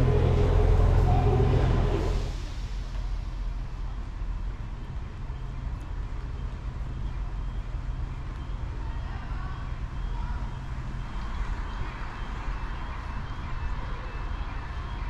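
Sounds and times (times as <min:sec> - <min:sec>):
train engine humming: 0:00.0 - 0:15.0.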